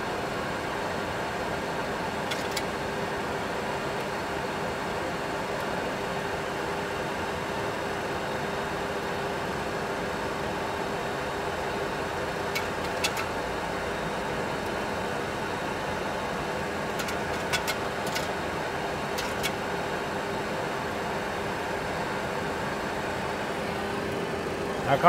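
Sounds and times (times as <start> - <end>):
cockpit engine hum and hiss: 0.0 - 25.0
faint constant tone: 0.0 - 25.0.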